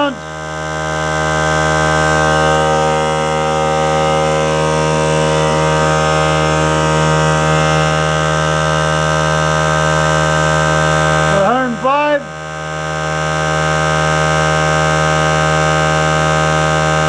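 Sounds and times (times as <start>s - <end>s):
electric air compressor humming: 0.0s - 17.0s.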